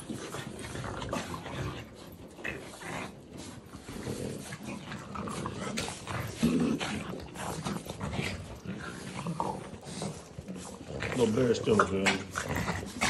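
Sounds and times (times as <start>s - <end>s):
dogs growling: 0.0s - 13.0s.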